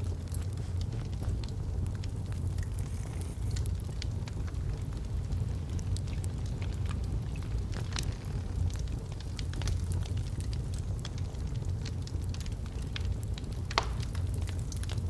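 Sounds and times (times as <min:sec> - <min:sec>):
fire popping: 0:00.0 - 0:15.0
logs crackling in fireplace: 0:00.0 - 0:15.0
low fire rumble: 0:00.0 - 0:15.0.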